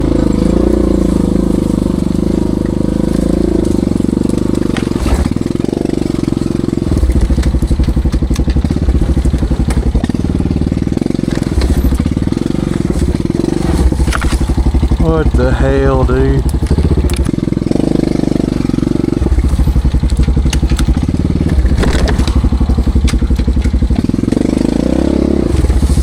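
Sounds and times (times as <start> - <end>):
atv engine revving under load: 0.0 - 26.0.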